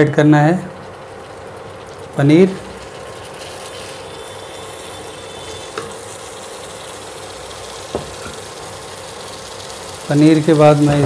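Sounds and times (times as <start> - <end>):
masala sizzling in a pan: 0.4 - 11.0.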